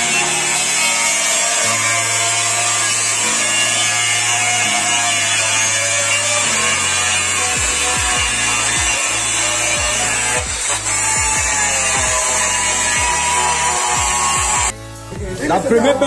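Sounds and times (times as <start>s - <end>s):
angle grinder grinding steel: 0.0s - 14.8s.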